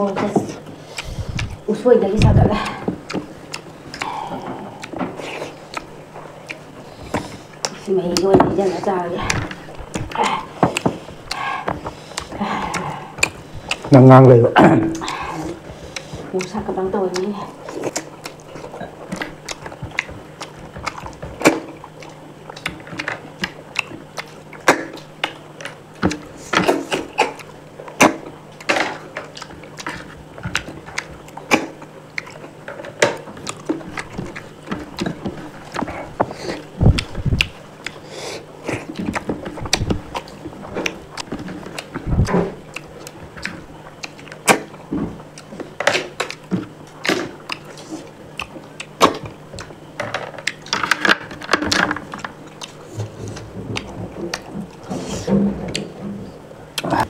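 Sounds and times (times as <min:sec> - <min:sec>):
faint steady hum: 0:00.0 - 0:57.0
person eating with wet smacks: 0:00.4 - 0:56.1, 0:56.7 - 0:57.0.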